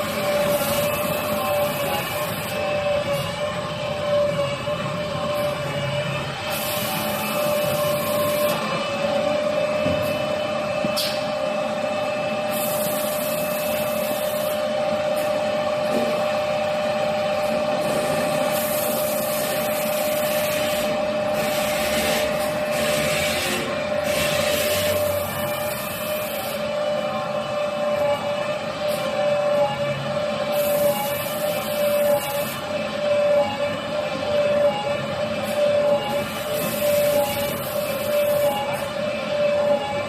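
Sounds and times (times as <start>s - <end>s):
machine hum: 0.0s - 40.0s.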